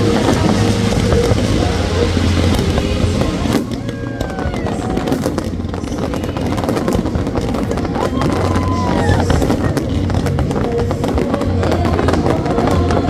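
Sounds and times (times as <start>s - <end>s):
faint music: 0.0s - 13.0s
fireworks booming: 0.0s - 13.0s
fireworks crackling: 0.0s - 13.0s.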